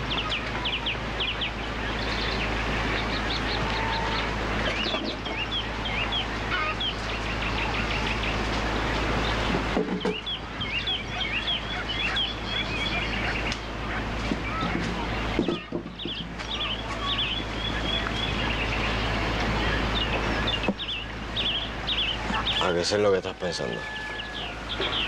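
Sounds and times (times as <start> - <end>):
birds chirping: 0.0 - 25.0
chickens clucking: 0.0 - 25.0.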